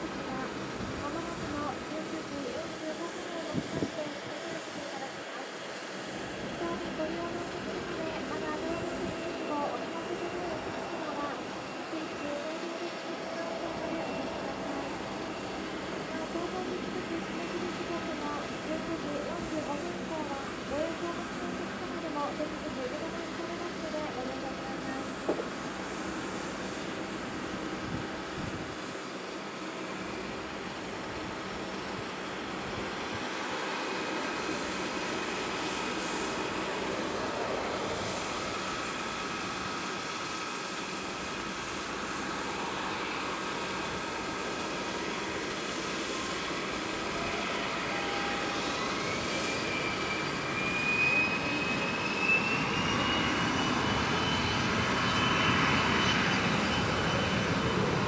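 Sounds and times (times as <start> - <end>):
distant jet engines spooling up: 0.0 - 58.0.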